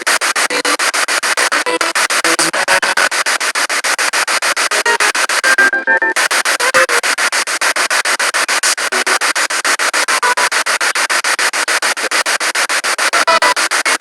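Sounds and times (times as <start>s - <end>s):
radio static bursts: 0.0s - 14.0s.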